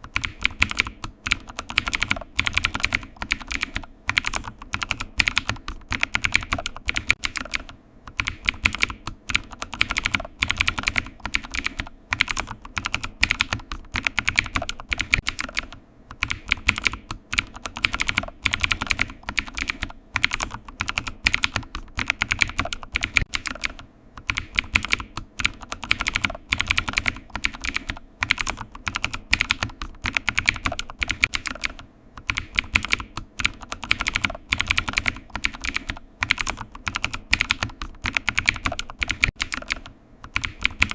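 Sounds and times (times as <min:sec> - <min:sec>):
keyboard typing clicks: 0:00.0 - 0:40.9.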